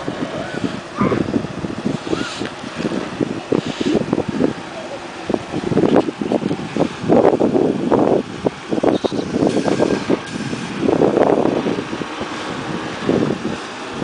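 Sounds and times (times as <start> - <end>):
truck engine running: 0.0 - 14.0
wind buffeting microphone: 0.0 - 14.0.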